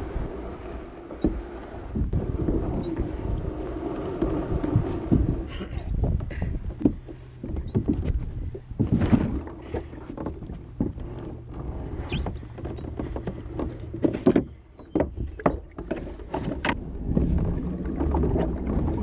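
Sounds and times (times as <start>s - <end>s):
kayak hull scraping and knocking: 0.0s - 19.0s.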